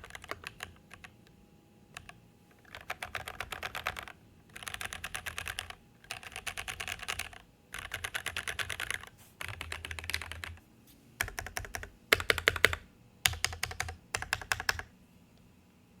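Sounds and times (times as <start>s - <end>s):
rapid typing on mechanical keyboard: 0.0s - 1.2s, 1.9s - 10.6s, 11.2s - 14.9s.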